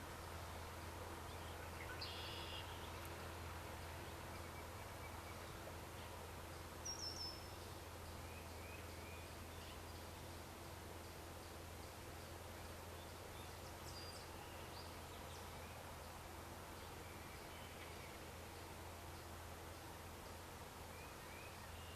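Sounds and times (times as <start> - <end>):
soft hiss: 0.0 - 21.9
steady low hum: 0.0 - 21.9.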